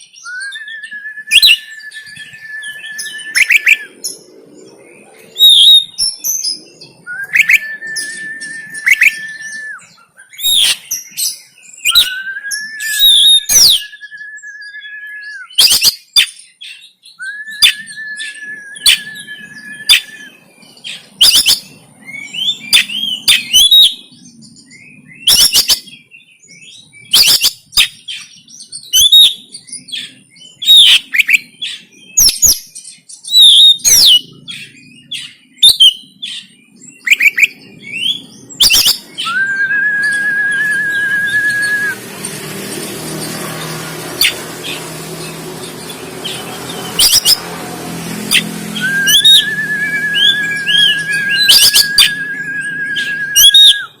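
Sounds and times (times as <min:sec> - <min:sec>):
bird whistling: 0:00.0 - 0:04.2, 0:05.4 - 0:32.6, 0:33.2 - 0:47.5, 0:48.2 - 0:54.0.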